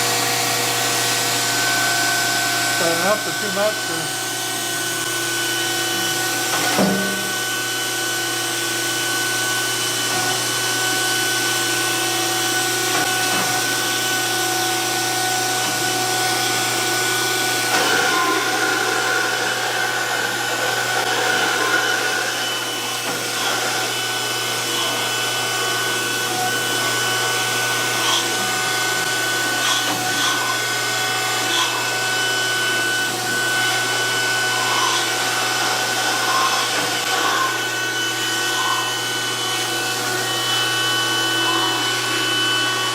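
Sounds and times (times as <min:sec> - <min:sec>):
surface grinder grinding: 0:00.0 - 0:42.9.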